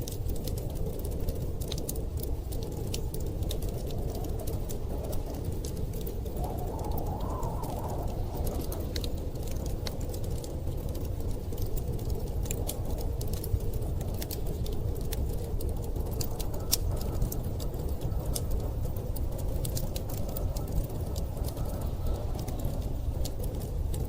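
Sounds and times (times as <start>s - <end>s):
storm wind rumble: 0.0s - 24.0s
wood fire crackling: 0.0s - 24.0s.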